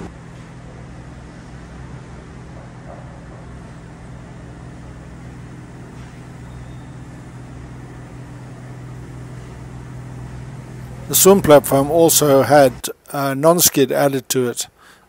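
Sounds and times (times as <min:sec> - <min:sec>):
machinery humming: 0:00.0 - 0:13.1.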